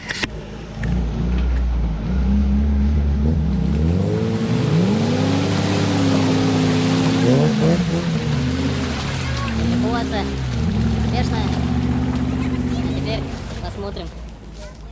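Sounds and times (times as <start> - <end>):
off-road vehicle engine revving: 0.1 - 14.4.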